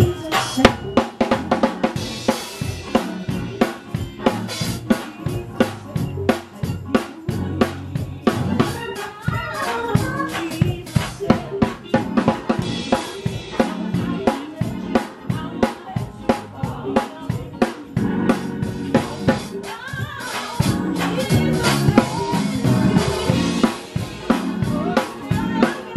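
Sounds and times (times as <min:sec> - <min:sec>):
drum kit playing fast patterns: 0:00.0 - 0:25.9
live band music: 0:00.0 - 0:25.9.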